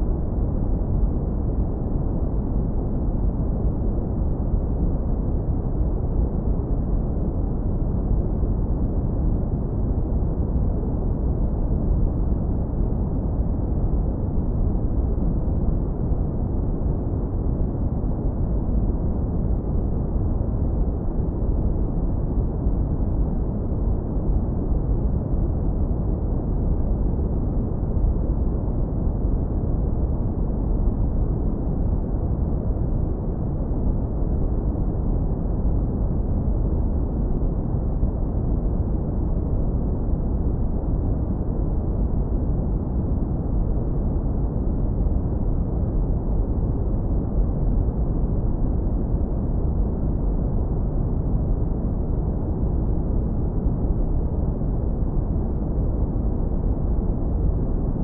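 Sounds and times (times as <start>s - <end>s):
deep brown noise rumble: 0.0s - 58.0s.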